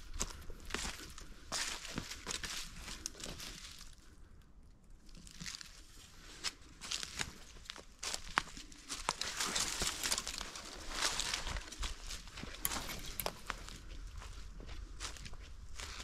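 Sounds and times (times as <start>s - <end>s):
footsteps crunching through dry leaves: 0.2s - 3.9s, 5.2s - 16.0s.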